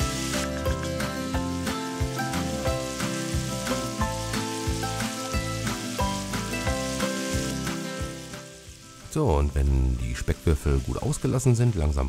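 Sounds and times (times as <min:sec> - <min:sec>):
bacon sizzling in a pot: 0:00.0 - 0:12.0.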